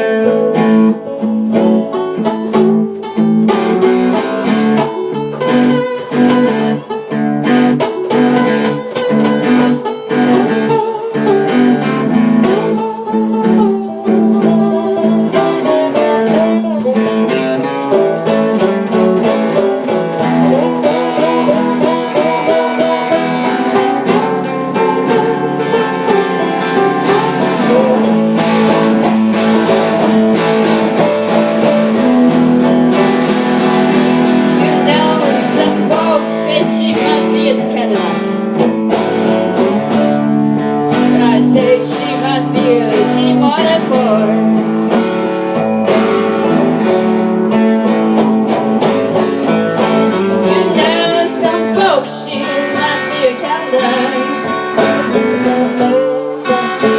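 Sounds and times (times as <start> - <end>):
blues guitar playing: 0.0 - 56.9.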